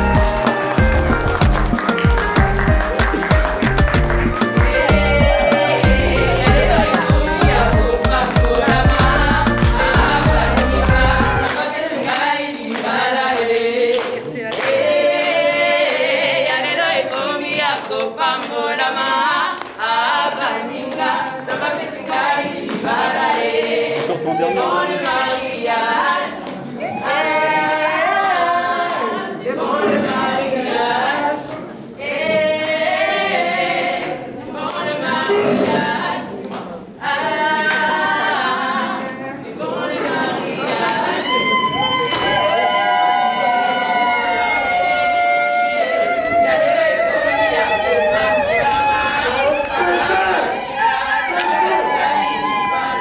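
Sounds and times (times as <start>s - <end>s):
group singing a cappella: 0.0s - 53.0s.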